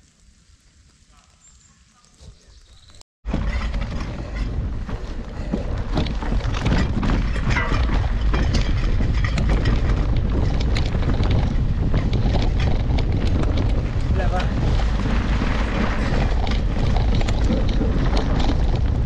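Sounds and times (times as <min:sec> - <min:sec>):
wind rumble on microphone: 0:02.2 - 0:19.0
bike rattling clicks and knocks: 0:03.3 - 0:19.0.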